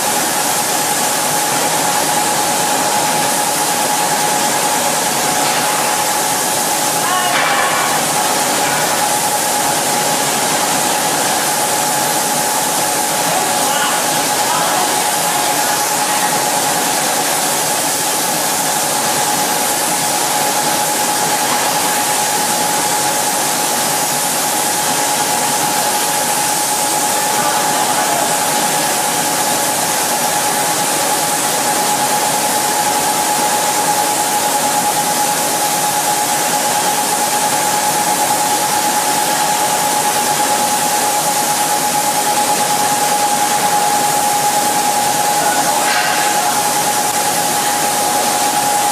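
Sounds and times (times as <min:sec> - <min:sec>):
mid-pitched machine whine: 0:00.0 - 0:48.9.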